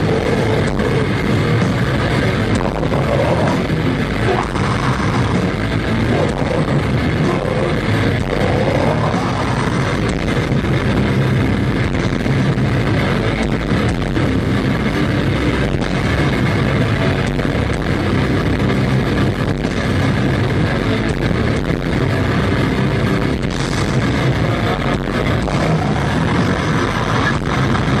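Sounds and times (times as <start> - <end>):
death metal band playing live: 0.0 - 28.0.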